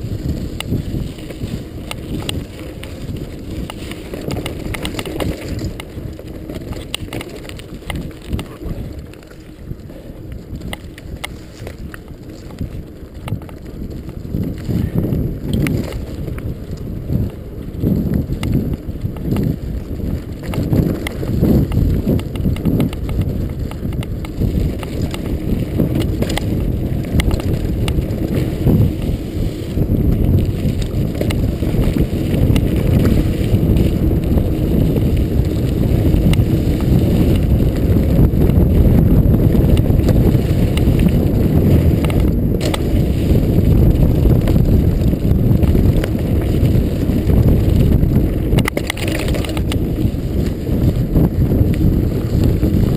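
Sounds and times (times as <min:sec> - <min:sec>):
bike rattling over bumps: 0:00.0 - 0:52.9
bike tyres rumbling over dirt: 0:00.0 - 0:52.9
wind buffeting microphone: 0:00.0 - 0:52.9.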